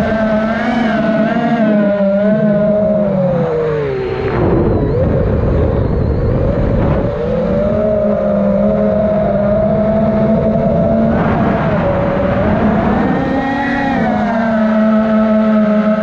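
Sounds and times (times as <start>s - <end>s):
drone motors whining: 0.0s - 16.0s
rush of wind: 0.0s - 16.0s.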